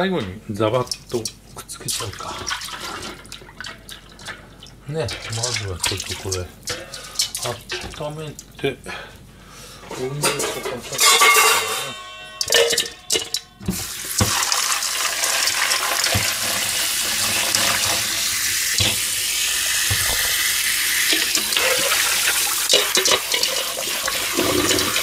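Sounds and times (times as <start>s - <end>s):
tap water running into metal bowl: 0.2s - 8.5s, 12.4s - 25.0s.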